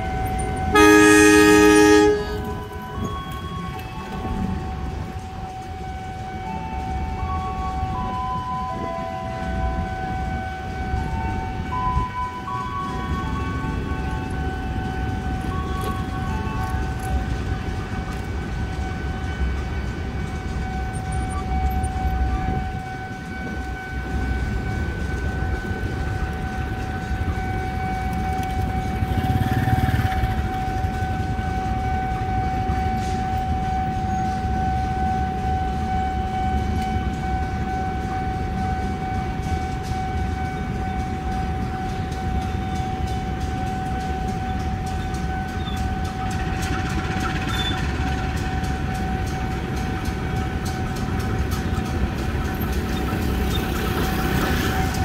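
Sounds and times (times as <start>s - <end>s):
train rumble with high whine: 0.0s - 55.0s.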